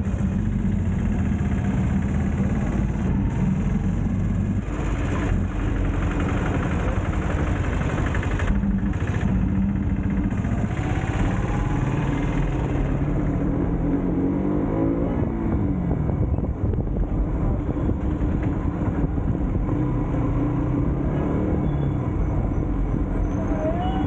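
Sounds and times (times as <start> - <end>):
motorcycle engine running: 0.0 - 23.2.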